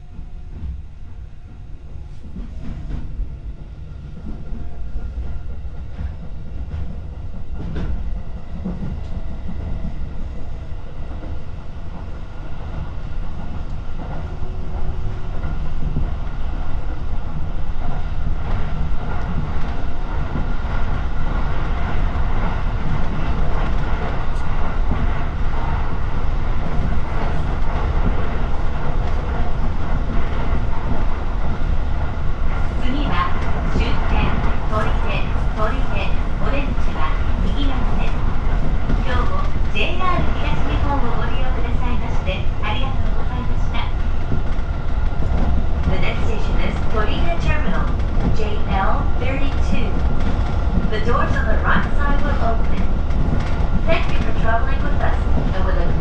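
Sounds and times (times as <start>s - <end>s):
train rumble from inside carriage: 0.0s - 56.0s.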